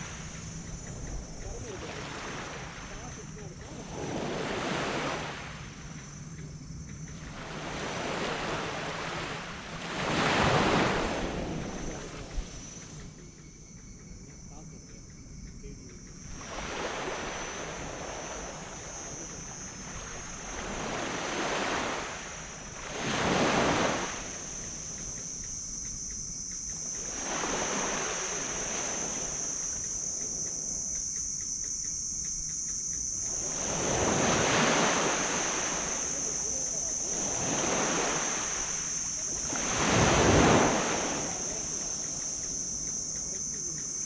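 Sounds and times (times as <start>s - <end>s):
waves washing onto beach: 0.0s - 13.2s, 15.9s - 44.0s
high insect buzz: 0.0s - 44.0s.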